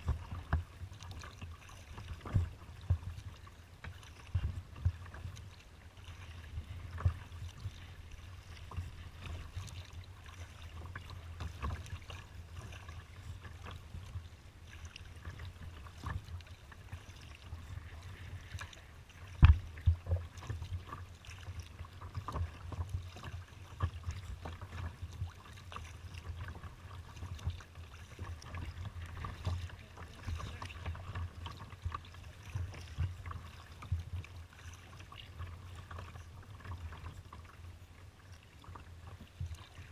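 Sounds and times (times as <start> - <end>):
water splashing against kayak hull: 0.0 - 39.9.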